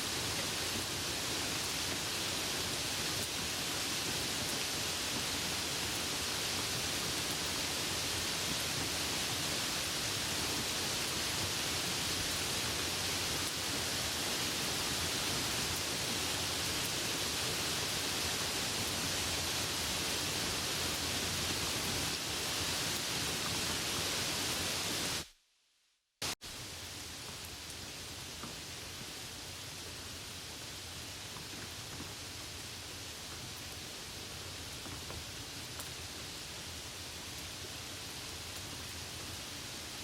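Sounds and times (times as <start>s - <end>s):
soft rain hissing: 0.0s - 25.4s, 26.2s - 40.0s.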